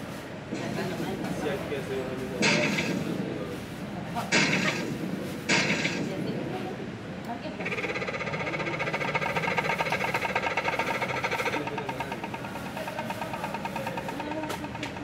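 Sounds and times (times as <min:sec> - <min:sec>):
pulsing engine-like rumble: 0:00.6 - 0:15.0.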